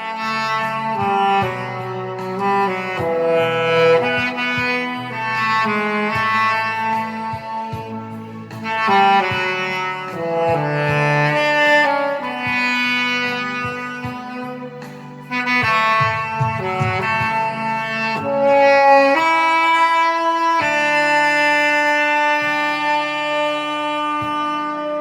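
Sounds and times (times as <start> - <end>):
backing track: 0.0 - 25.0
saxophone slow melody: 0.0 - 25.0.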